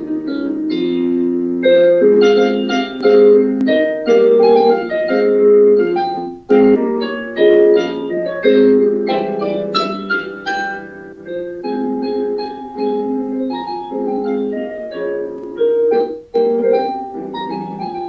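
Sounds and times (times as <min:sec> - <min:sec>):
slow digital piano melody: 0:00.0 - 0:18.0.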